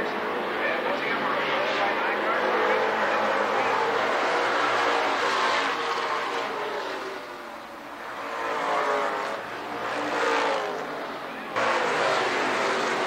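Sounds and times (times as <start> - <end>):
stock car engines racing past: 0.0 - 13.0.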